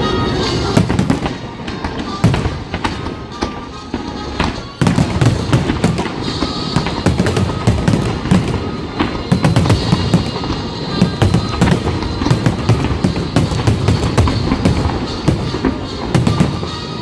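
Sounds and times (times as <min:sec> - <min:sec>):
fireworks bangs and crackles: 0:00.0 - 0:17.0
low fireworks booms: 0:00.0 - 0:17.0
music playing: 0:00.0 - 0:17.0.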